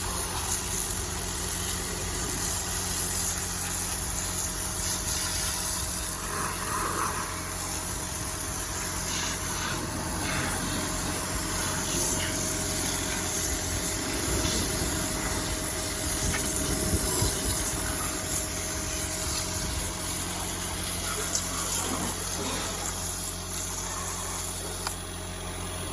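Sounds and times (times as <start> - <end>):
water spraying and splashing: 0.0 - 25.2.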